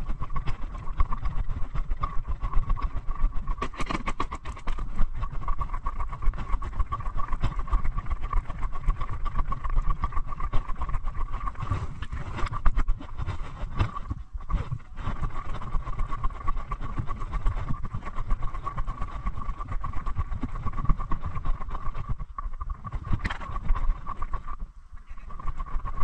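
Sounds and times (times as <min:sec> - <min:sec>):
low rumble on microphone: 0:00.0 - 0:26.0.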